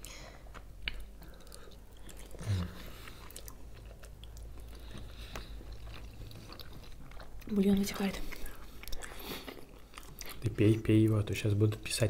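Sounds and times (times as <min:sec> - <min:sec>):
people chewing dumplings: 0:00.0 - 0:11.9.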